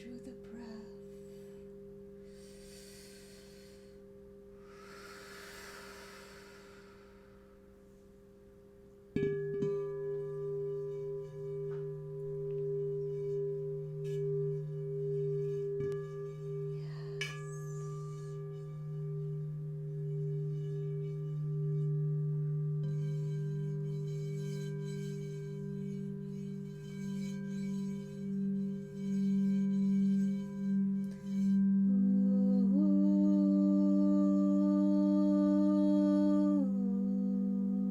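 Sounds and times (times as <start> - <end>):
singing bowl ringing: 0.0 - 37.9.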